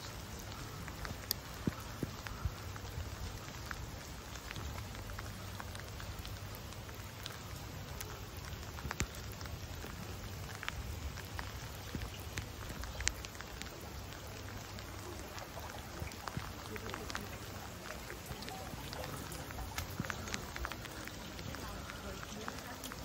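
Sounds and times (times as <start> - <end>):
rain falling steadily: 0.0 - 23.0
raindrop ticks: 0.0 - 23.0.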